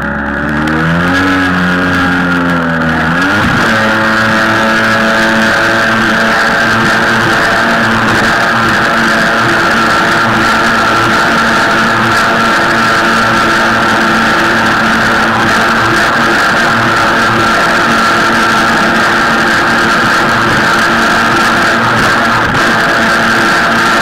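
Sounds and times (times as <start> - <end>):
jet ski engine droning: 0.0 - 24.0.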